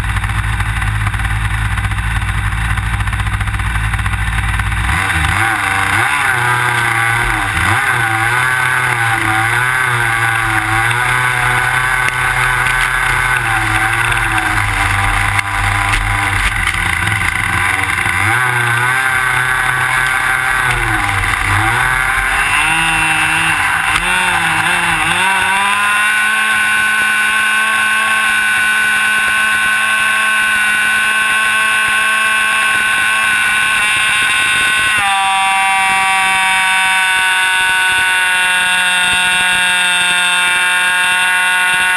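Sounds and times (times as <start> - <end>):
model airplane engine running: 0.0 - 41.9.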